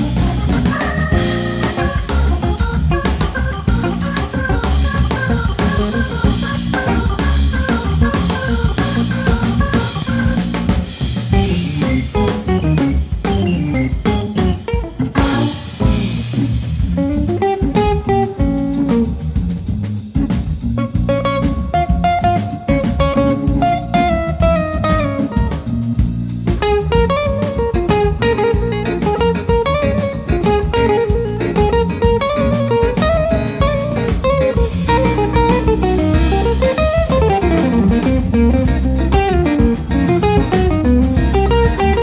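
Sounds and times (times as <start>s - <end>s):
electric guitar single-note lines: 0.0s - 19.6s, 20.7s - 42.0s
drum kit: 0.0s - 42.0s
keyboard: 0.0s - 42.0s.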